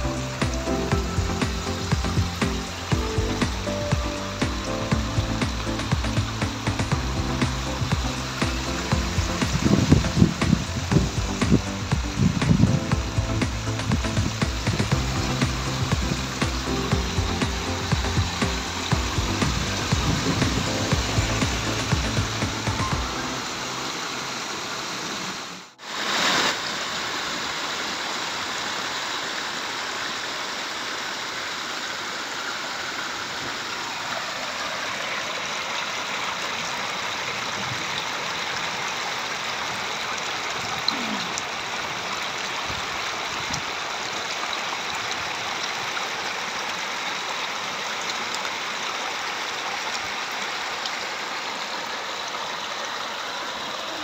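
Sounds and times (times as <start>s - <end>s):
rain and runoff water rushing: 0.0s - 54.0s.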